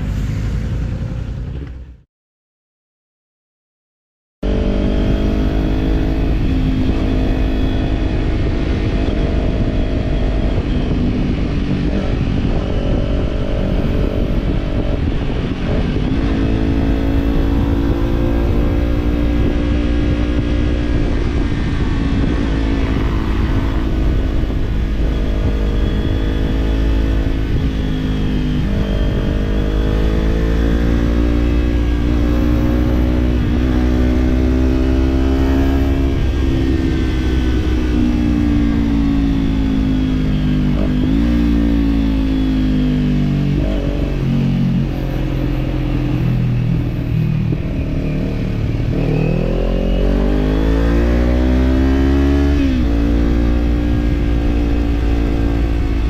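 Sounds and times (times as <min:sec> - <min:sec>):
motorcycle engine cruising: 0:00.0 - 0:02.0, 0:04.4 - 0:56.0
wind and road noise: 0:00.0 - 0:02.1, 0:04.4 - 0:56.0.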